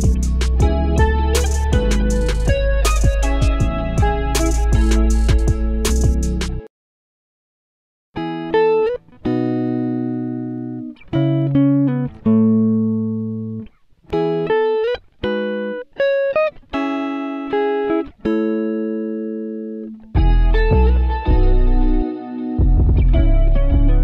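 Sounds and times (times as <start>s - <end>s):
plucked string music: 0.0s - 6.7s, 8.2s - 24.0s.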